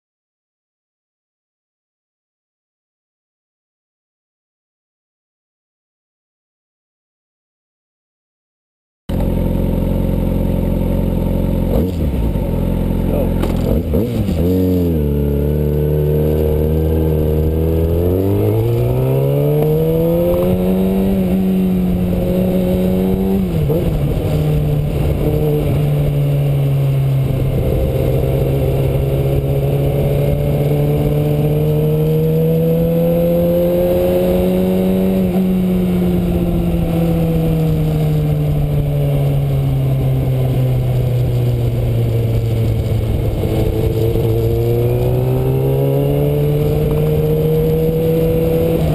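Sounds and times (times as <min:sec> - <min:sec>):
motorcycle engine running: 0:09.1 - 0:48.9.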